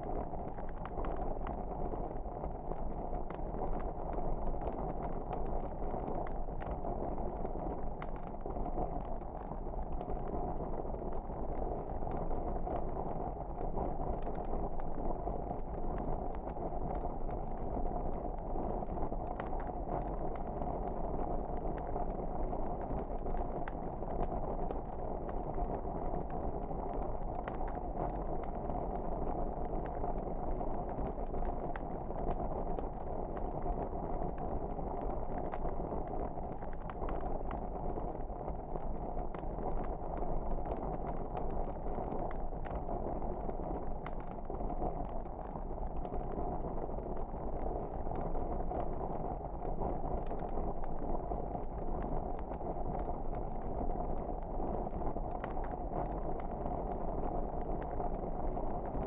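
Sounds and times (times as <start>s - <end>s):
log fire crackling and popping: 0.0s - 59.0s.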